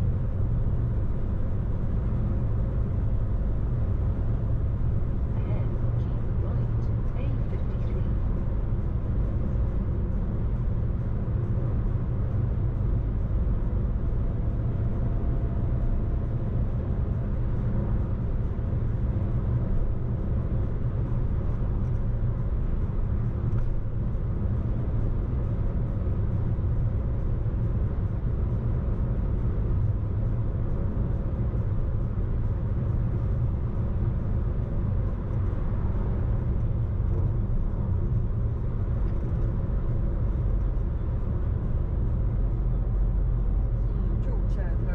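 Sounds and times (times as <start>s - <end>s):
car driving road and engine noise: 0.0s - 44.9s.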